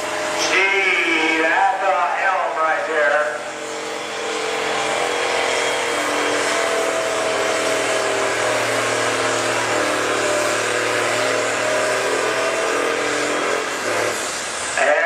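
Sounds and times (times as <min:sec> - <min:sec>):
tractor engine under heavy load: 0:00.0 - 0:14.8.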